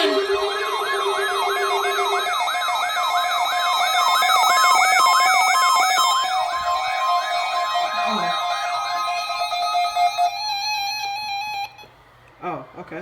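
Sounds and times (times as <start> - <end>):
steady tone: 0.0 - 11.2
electronic siren whooping: 0.0 - 11.9.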